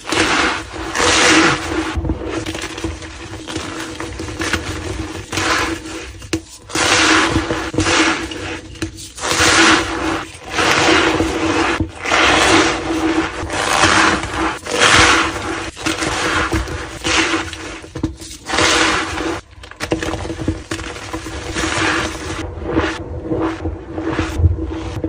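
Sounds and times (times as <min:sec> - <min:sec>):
chalk being crushed: 0:00.0 - 0:22.4.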